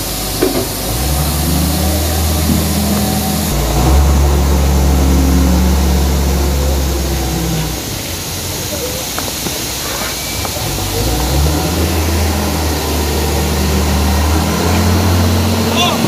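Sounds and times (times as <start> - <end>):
heavy engine under load: 0.0 - 16.0.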